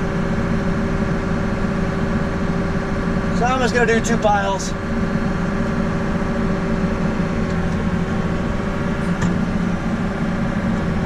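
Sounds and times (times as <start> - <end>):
tractor engine drone: 0.0 - 11.0.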